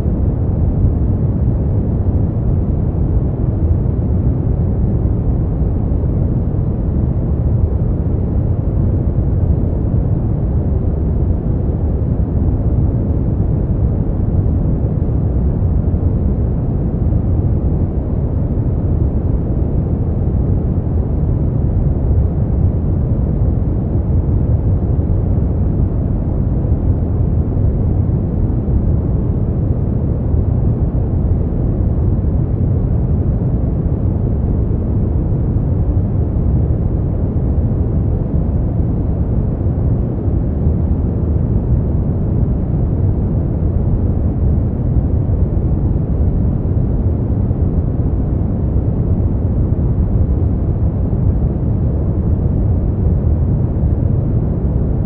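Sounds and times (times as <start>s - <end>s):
deep rumbling brown noise: 0.0s - 55.0s.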